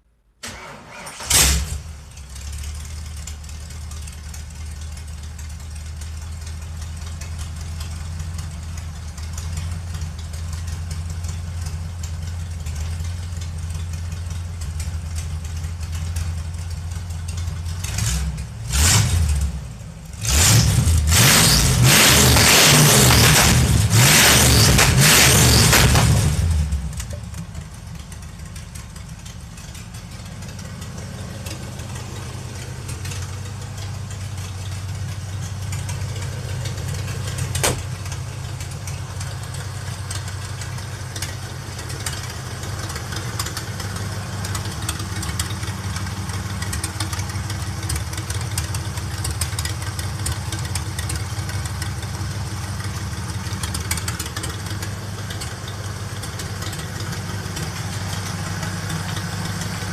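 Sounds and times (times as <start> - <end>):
truck engine idling: 1.8 - 20.3, 25.5 - 59.9.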